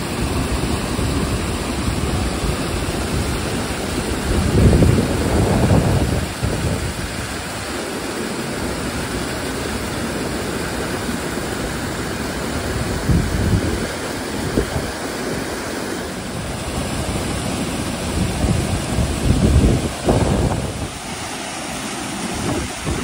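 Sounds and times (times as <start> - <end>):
wind gusts on microphone: 0.0 - 7.7, 11.5 - 23.0
stream rushing over rocks: 0.0 - 23.0.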